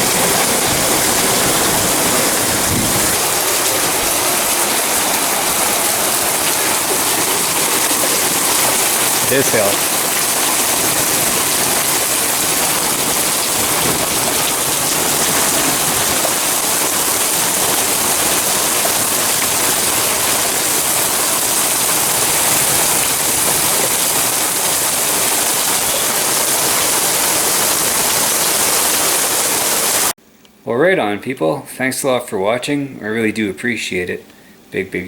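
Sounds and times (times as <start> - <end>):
hail and rain falling hard: 0.0 - 30.1.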